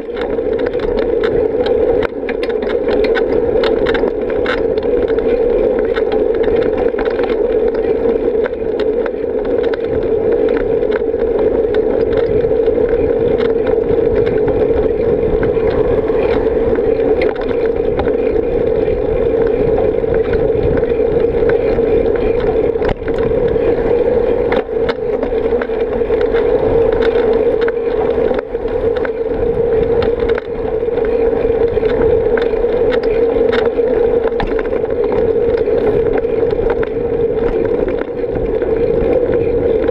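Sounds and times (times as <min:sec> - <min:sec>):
sharp ticks from bumps: 0:00.0 - 0:39.9
wind and road rumble: 0:00.0 - 0:39.9.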